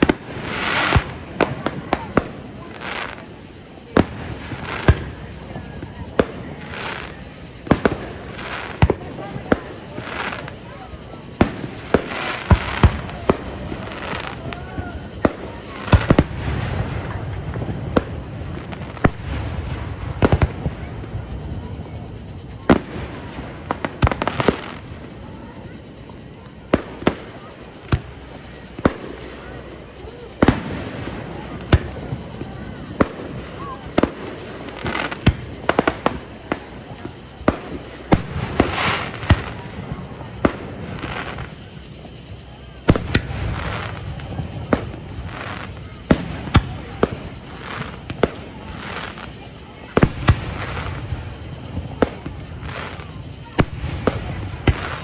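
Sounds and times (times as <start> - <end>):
continuous rumble: 0.0 - 55.0
fireworks bangs: 0.0 - 55.0
fireworks hissing: 0.0 - 55.0.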